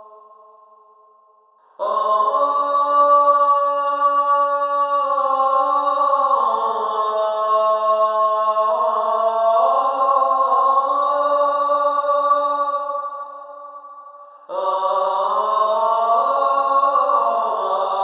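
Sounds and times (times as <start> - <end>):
chant-like massed voices: 1.8 - 13.8, 14.4 - 18.0.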